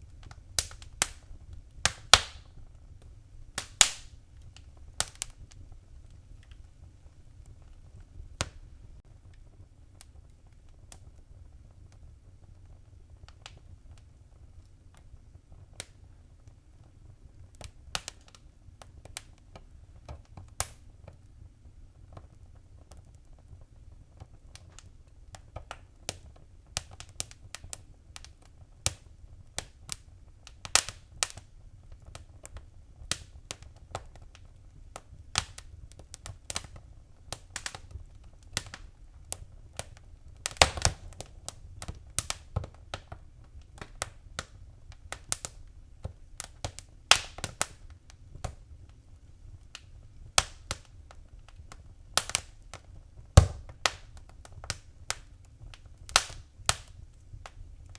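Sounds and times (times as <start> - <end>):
fire crackling and snapping: 0.0 - 57.9.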